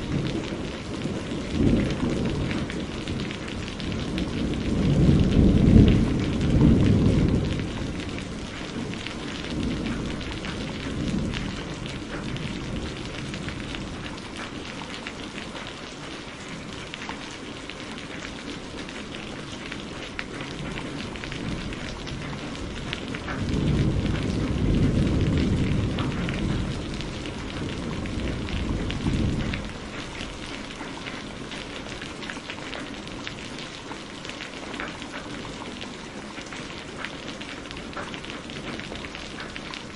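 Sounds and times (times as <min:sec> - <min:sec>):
thunder rumbling: 0:00.0 - 0:33.9
steady rain: 0:00.0 - 0:39.9.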